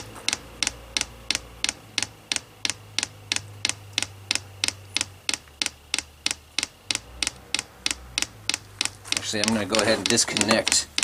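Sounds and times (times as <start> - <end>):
fuel pump ticking: 0.0 - 11.0.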